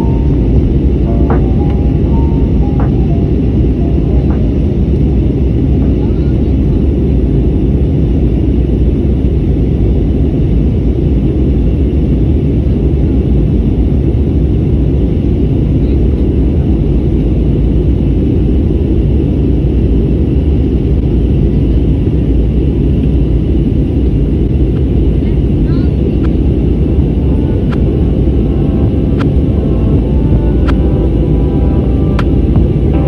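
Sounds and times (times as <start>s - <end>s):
jet cabin engine rumble: 0.0s - 33.0s.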